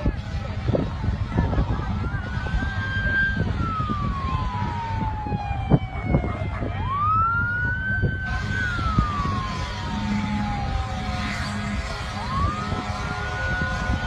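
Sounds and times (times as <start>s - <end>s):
emergency vehicle siren wailing: 0.0s - 14.0s
steady low rumble: 0.0s - 14.0s.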